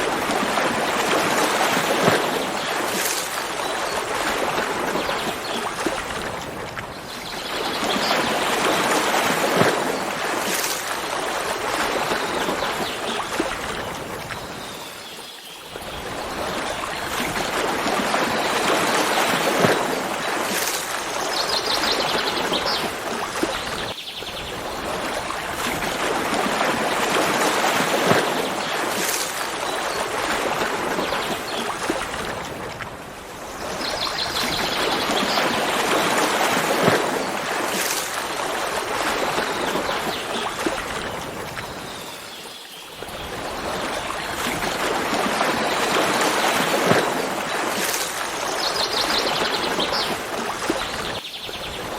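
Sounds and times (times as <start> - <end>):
stream water rushing: 0.0 - 51.9.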